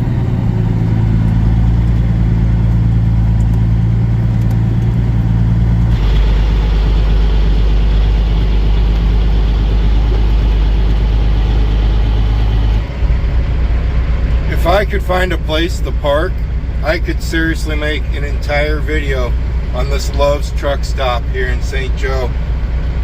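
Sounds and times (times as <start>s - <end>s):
road noise: 0.0s - 23.0s
truck diesel engine droning: 0.0s - 23.0s.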